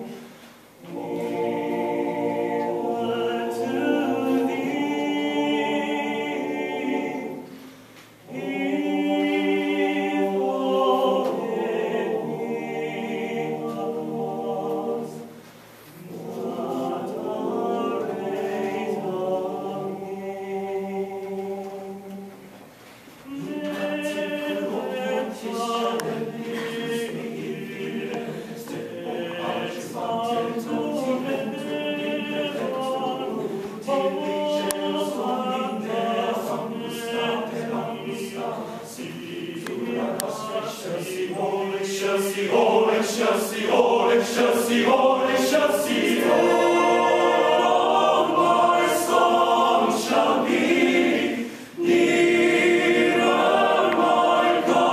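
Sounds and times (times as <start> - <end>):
male choir singing a cappella: 0.0 - 22.6, 23.2 - 54.9.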